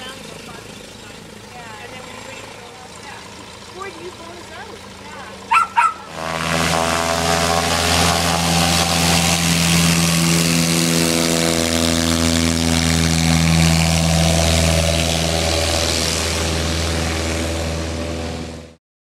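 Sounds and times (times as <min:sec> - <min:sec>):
floatplane engine and propeller drone: 0:00.0 - 0:18.8.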